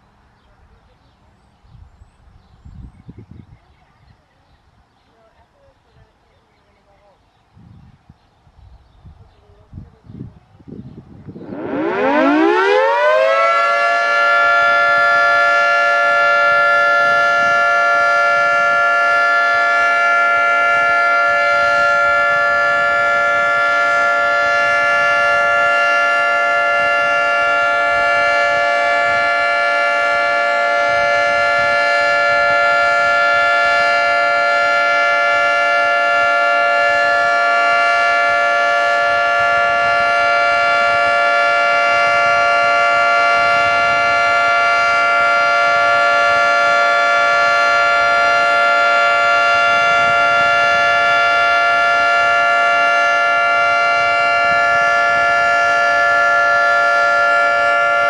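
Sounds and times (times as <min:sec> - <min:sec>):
outdoor warning siren: 0:09.7 - 0:58.0.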